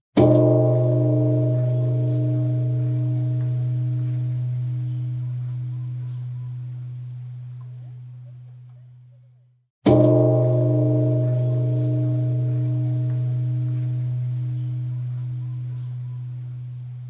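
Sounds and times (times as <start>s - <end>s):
temple bell ringing: 0.2s - 8.1s, 9.9s - 17.0s.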